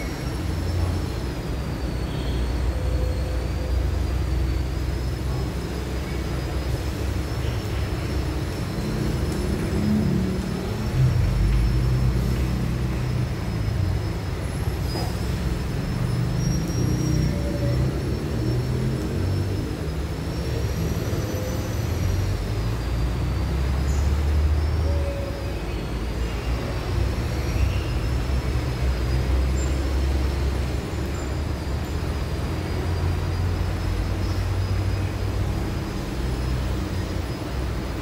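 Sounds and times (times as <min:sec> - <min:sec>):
faint high whine: 0:00.0 - 0:38.0.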